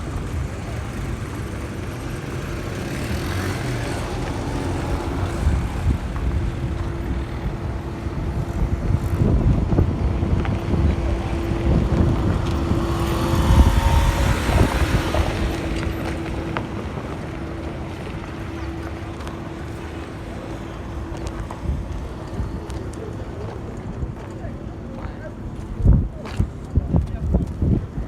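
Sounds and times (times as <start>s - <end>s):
vehicle passing: 0.0s - 26.9s
wind buffeting microphone: 0.0s - 28.0s.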